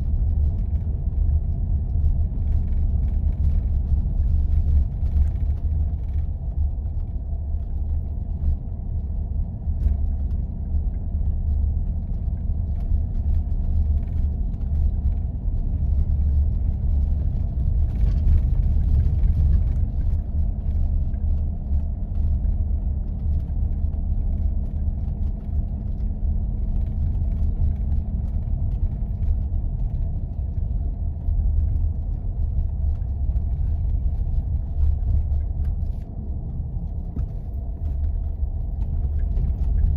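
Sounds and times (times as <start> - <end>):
faint steady hum: 0.0 - 39.9
vehicle engine and tyres rumbling: 0.0 - 39.9.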